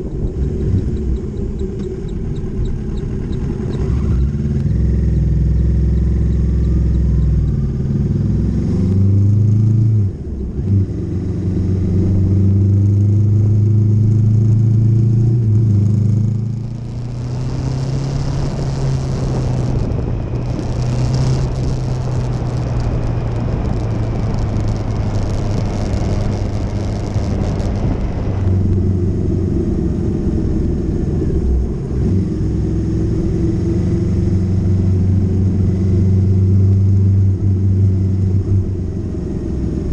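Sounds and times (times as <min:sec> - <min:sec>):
motorcycle engine running: 0:00.0 - 0:09.1, 0:10.1 - 0:39.9.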